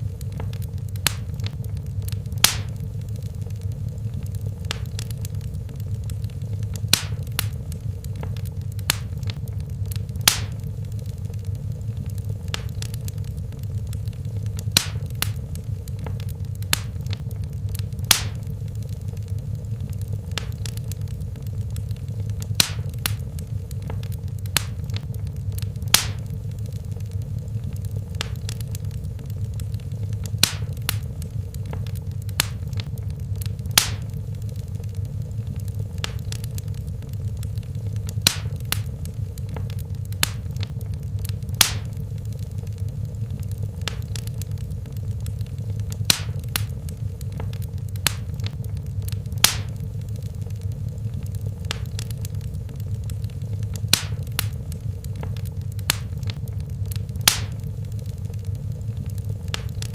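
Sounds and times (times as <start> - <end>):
fire popping: 0.0 - 59.9
low rumble of flames: 0.0 - 59.9.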